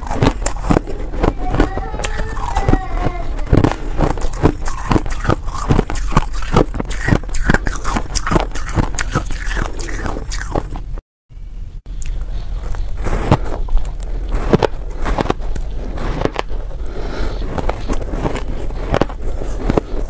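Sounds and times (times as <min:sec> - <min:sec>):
crunching and chewing ice: 0:00.0 - 0:10.9, 0:12.0 - 0:20.0.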